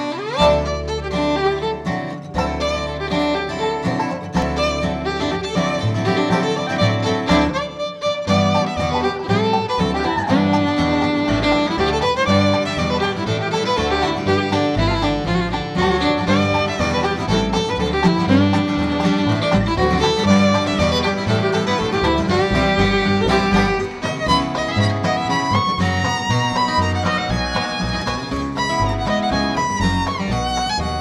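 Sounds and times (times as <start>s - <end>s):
acoustic guitar: 0.0s - 31.0s
banjo: 0.0s - 31.0s
fiddle melody: 0.0s - 31.0s
upright bass: 0.0s - 31.0s.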